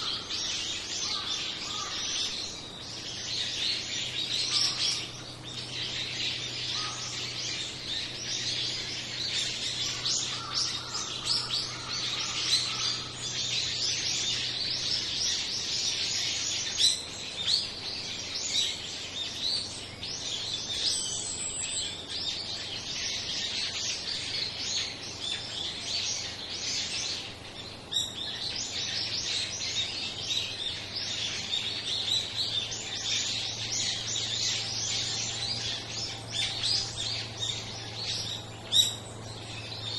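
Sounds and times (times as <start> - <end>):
flock of songbirds chirping: 0.0 - 39.9.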